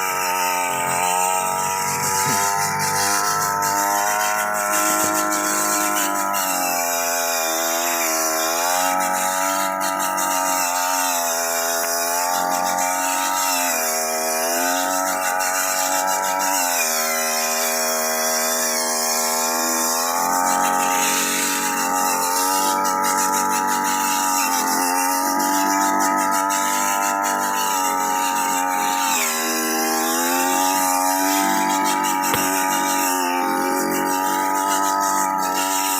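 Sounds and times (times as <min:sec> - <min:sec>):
two-stroke brush-cutter engine: 0:00.0 - 0:35.9.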